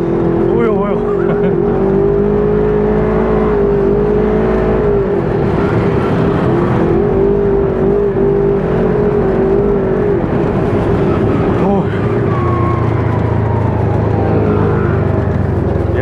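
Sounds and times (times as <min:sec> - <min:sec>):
dune buggy engine revving: 0:00.0 - 0:16.0.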